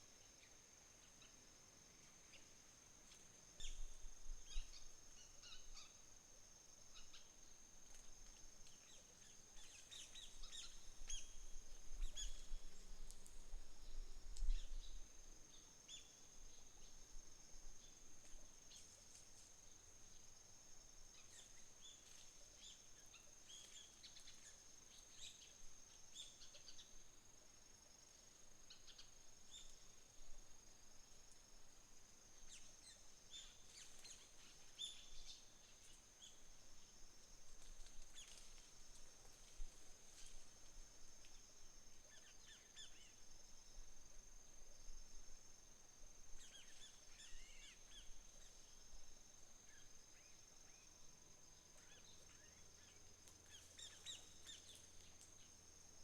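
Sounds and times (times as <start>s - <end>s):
high-pitched insect trill: 3.5s - 8.0s, 8.7s - 56.0s.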